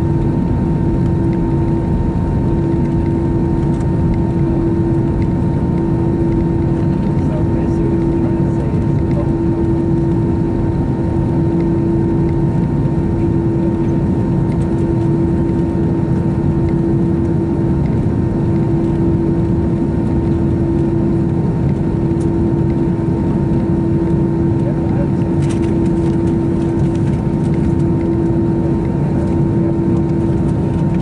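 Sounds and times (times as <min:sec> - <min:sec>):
constant engine whine: 0:00.0 - 0:31.0
jet engine drone in cabin: 0:00.0 - 0:31.0.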